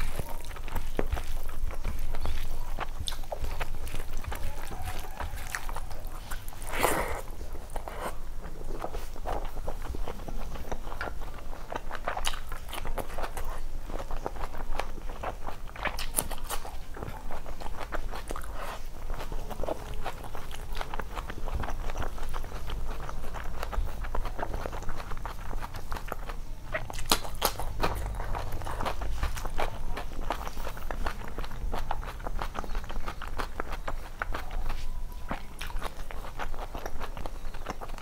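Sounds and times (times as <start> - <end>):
chewing and wet mouth smacks: 0.0 - 38.0.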